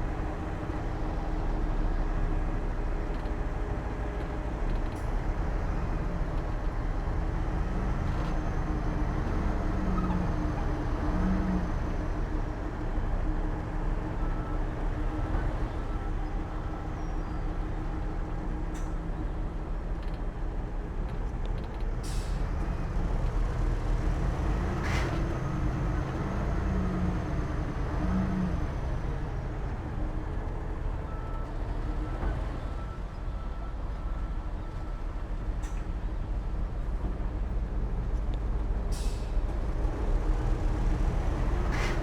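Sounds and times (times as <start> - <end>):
diesel earthmoving machines running: 0.0 - 42.0.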